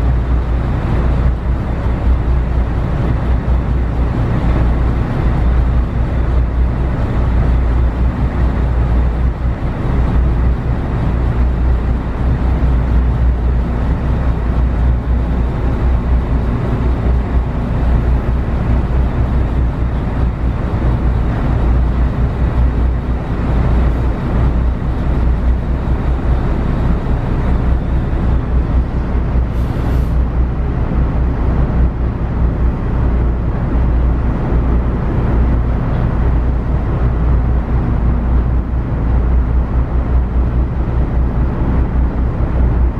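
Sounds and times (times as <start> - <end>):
ship engines rumbling: 0.0 - 42.9.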